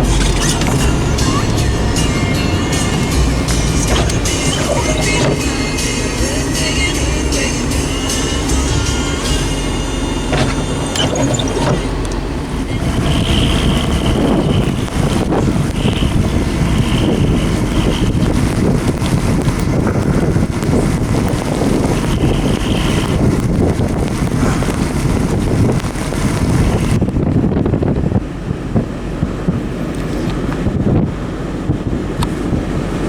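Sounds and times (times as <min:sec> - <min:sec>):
truck engine running: 0:00.0 - 0:33.0
wind buffeting microphone: 0:00.0 - 0:33.0.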